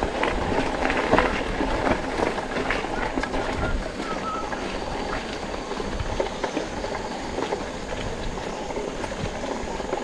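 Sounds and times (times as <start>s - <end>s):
bike tyres rumbling on dirt: 0.0s - 10.0s
bikes rattling over bumps: 0.0s - 10.0s.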